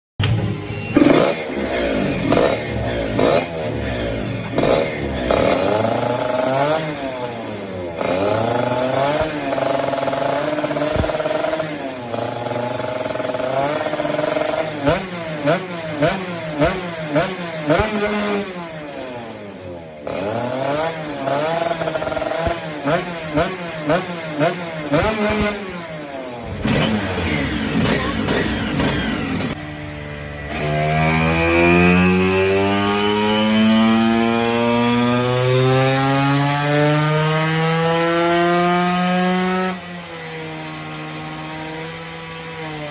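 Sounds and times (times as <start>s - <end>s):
scooter engine revving: 0.2s - 42.9s.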